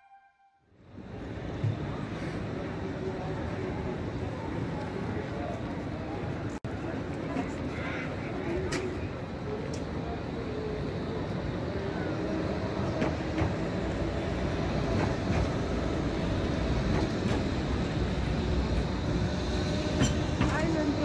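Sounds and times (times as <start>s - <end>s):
tram rumbling past: 0.8s - 21.0s.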